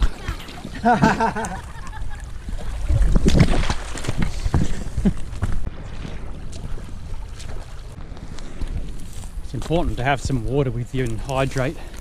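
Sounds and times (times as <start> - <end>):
boots splashing through water: 0.0 - 12.0.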